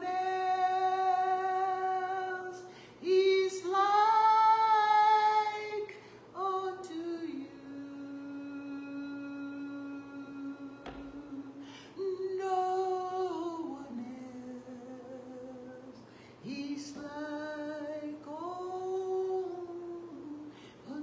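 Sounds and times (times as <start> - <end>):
woman singing slow notes: 0.0 - 21.0.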